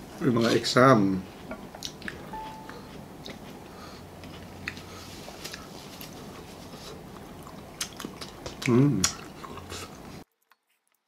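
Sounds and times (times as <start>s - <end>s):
people chewing and eating: 0.0s - 11.0s
low steady hum: 1.2s - 10.2s.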